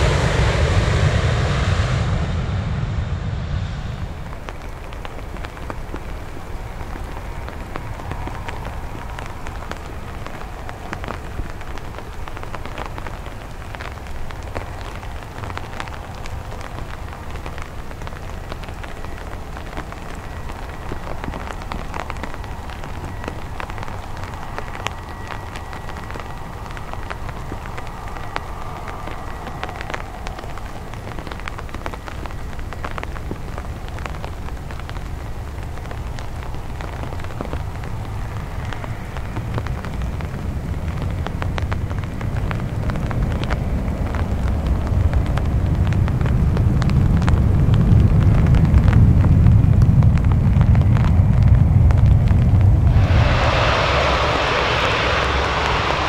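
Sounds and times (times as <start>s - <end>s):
jet engines roaring: 0.0s - 46.3s, 50.2s - 56.0s
faint engine whine: 0.0s - 56.0s
rain pattering on an umbrella: 4.1s - 56.0s.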